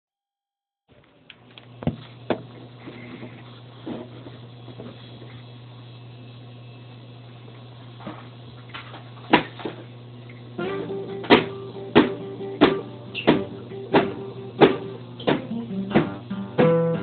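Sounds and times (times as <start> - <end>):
steady low hum: 0.9 - 17.0.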